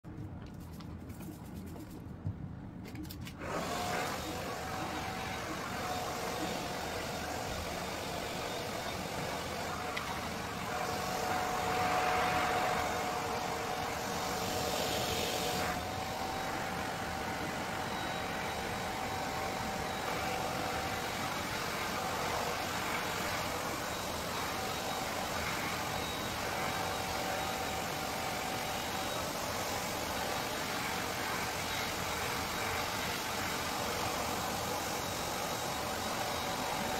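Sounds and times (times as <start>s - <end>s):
hair dryer running: 3.4s - 36.9s.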